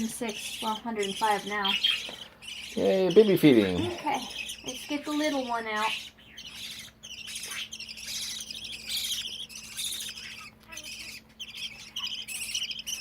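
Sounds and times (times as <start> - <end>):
bird chattering and warbling: 0.0 - 13.0
faint hum: 0.0 - 13.0.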